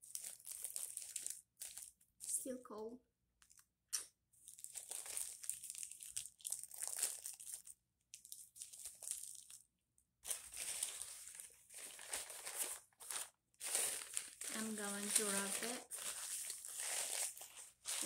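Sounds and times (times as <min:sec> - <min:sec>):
plastic wrap crinkling: 0:00.0 - 0:02.5, 0:03.4 - 0:03.7, 0:04.4 - 0:18.0.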